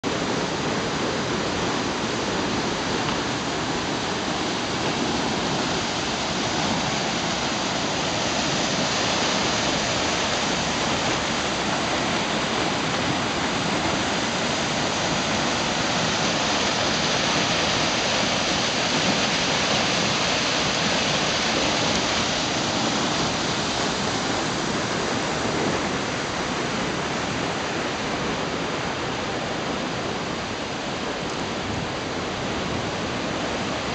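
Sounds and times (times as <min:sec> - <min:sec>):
whitewater rushing: 0:00.0 - 0:33.9.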